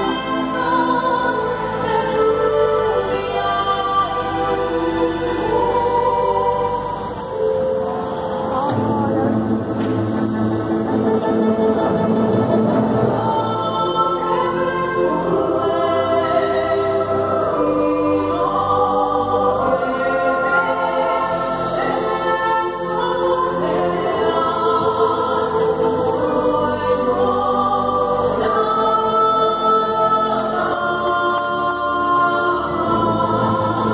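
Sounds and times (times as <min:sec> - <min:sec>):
choir singing held chords: 0:00.0 - 0:33.9.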